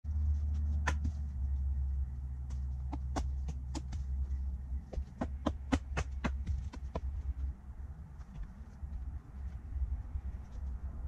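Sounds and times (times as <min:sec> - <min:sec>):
low rumble: 0:00.1 - 0:11.0.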